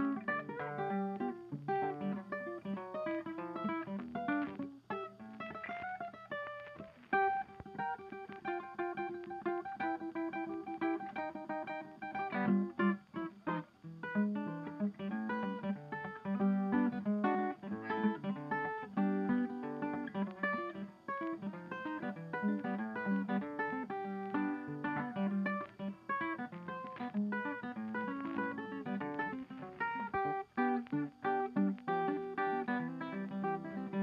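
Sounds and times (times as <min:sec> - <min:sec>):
plucked acoustic guitar: 0:00.0 - 0:34.0.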